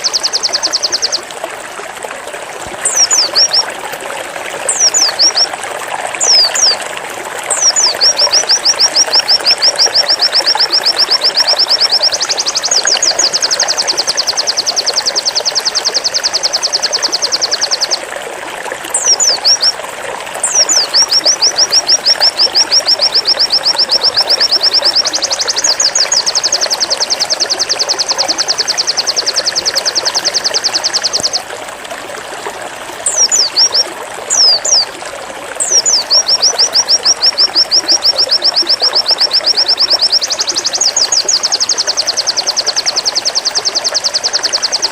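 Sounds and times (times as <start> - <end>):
bird singing fast trills: 0.0 - 1.2, 2.8 - 3.7, 4.7 - 5.5, 6.2 - 6.8, 7.5 - 18.1, 18.9 - 19.8, 20.4 - 31.4, 33.0 - 34.9, 35.6 - 44.9.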